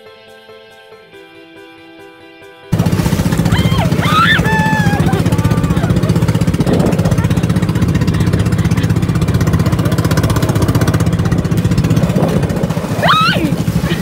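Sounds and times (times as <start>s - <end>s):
boat engine chugging: 2.7s - 14.0s.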